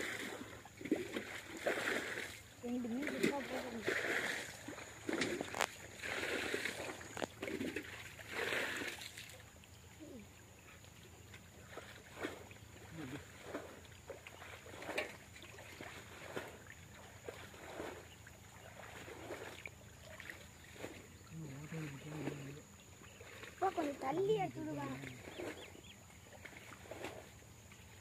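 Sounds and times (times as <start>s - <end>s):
splashing in muddy water: 0.0s - 28.0s.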